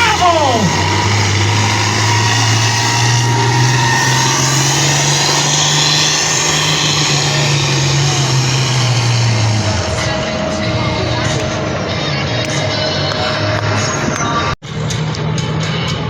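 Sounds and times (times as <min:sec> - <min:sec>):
engine at full throttle: 0:00.0 - 0:16.0.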